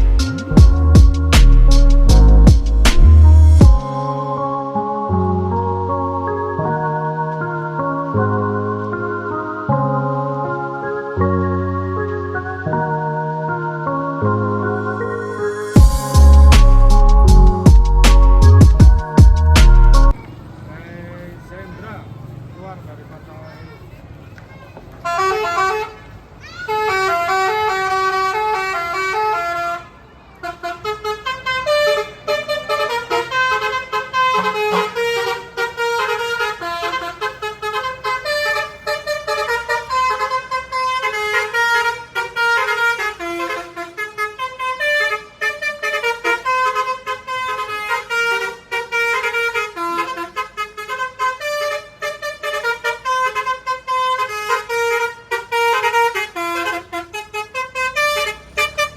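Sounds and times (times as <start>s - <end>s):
bus multi-tone horns playing: 0.0s - 20.2s, 25.0s - 58.9s.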